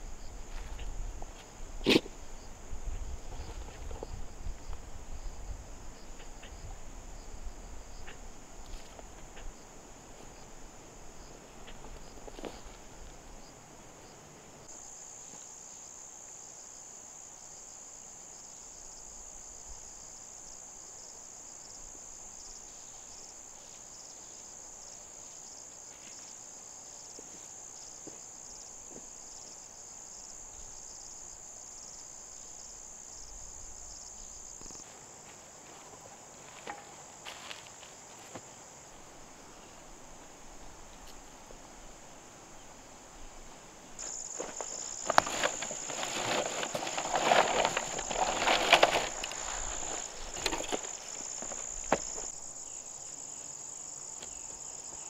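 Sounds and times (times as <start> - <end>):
high-pitched insect chorus: 0.0 - 39.8, 44.0 - 55.0.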